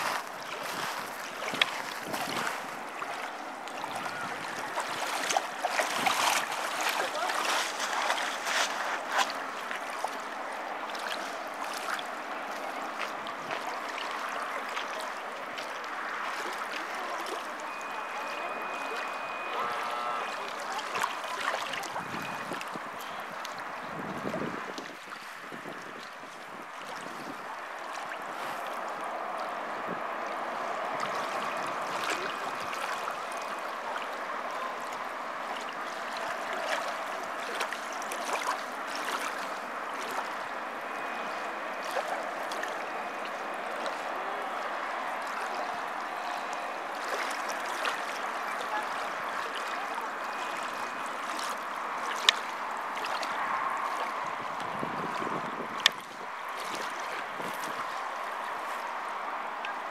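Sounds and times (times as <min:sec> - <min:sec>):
small waves lapping: 0:00.0 - 0:59.9.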